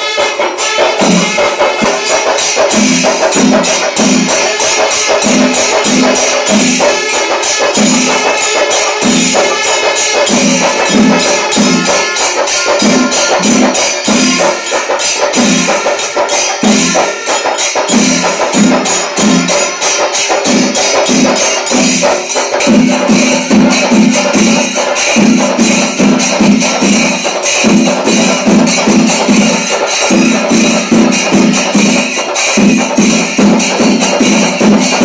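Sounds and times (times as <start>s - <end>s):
drums beating: 0.0s - 35.0s
small cymbals clashing: 0.0s - 35.0s.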